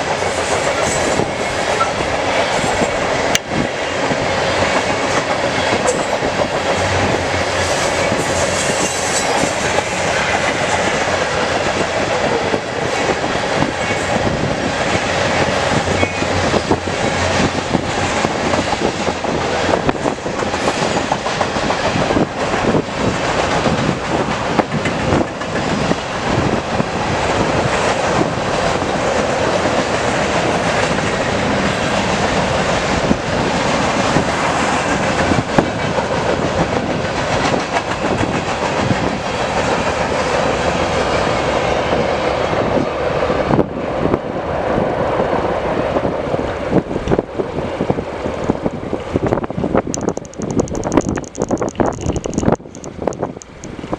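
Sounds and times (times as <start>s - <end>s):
train wheels clacking on rails: 0.0s - 43.7s, 45.2s - 53.9s.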